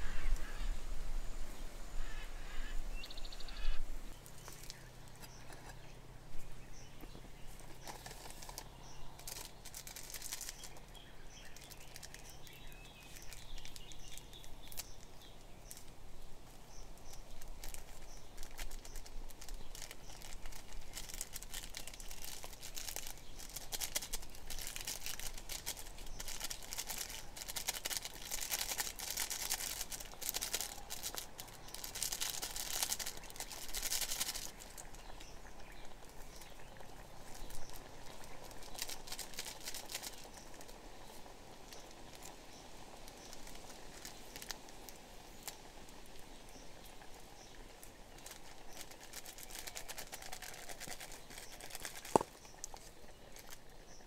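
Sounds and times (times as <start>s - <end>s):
birds chirping faintly: 0.0s - 54.0s
crackling and rustling: 2.0s - 54.0s.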